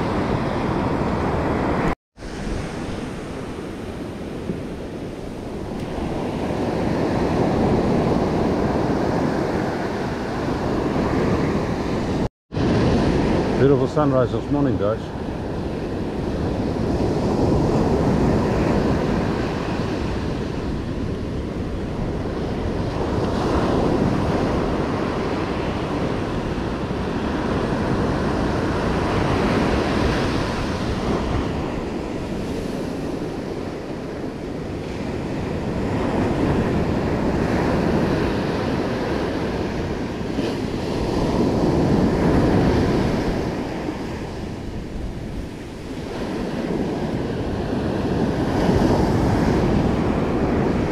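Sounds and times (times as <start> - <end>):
ocean surf breaking: 0.0 - 50.9.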